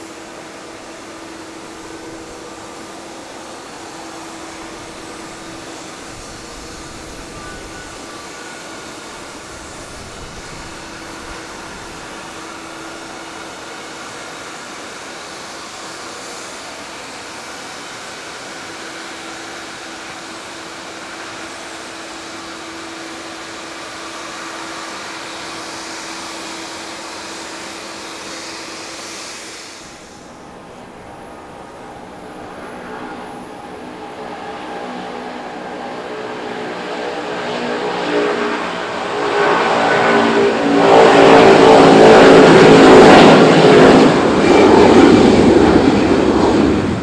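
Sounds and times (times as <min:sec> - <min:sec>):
jet engines whining: 0:00.0 - 0:47.0.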